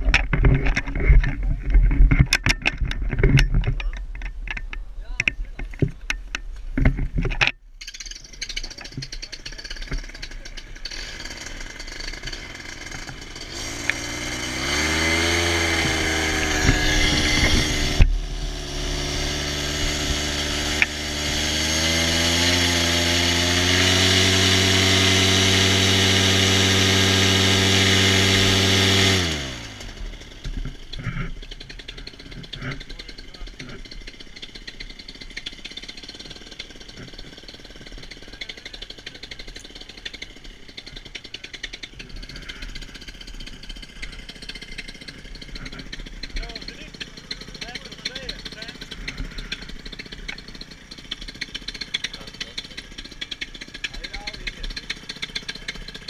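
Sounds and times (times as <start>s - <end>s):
paramotor engine running: 0.0s - 56.0s.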